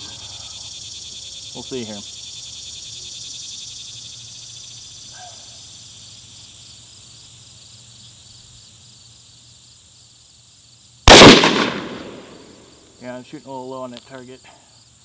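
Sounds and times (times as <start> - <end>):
insects chirping in chorus: 0.0 - 15.0.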